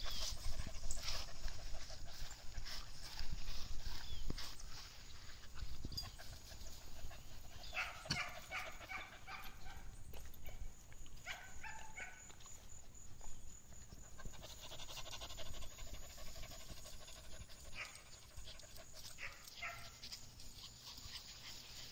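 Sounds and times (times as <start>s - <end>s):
small dogs barking and yipping: 0.0s - 12.7s, 13.6s - 21.9s.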